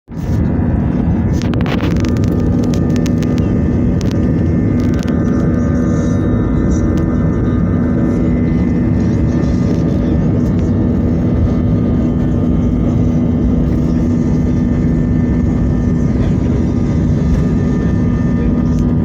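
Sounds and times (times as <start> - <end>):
airplane engines droning: 0.1 - 19.0.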